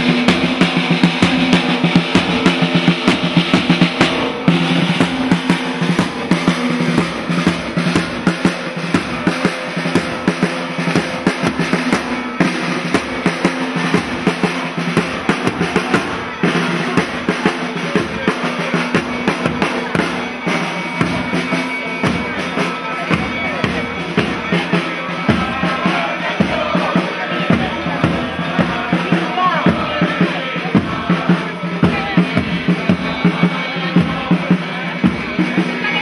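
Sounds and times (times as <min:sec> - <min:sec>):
snare and bass drum beating: 0:00.0 - 0:36.0.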